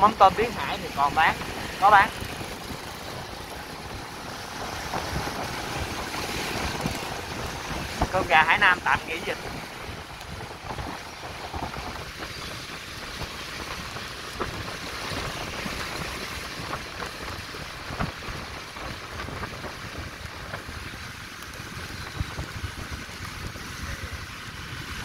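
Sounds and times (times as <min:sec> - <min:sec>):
rain hiss on wet road: 0:00.0 - 0:25.0
wind buffeting microphone: 0:00.0 - 0:25.0.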